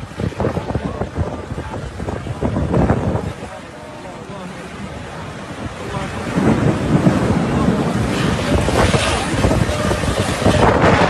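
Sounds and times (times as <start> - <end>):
storm wind gusting on microphone: 0.0 - 11.0.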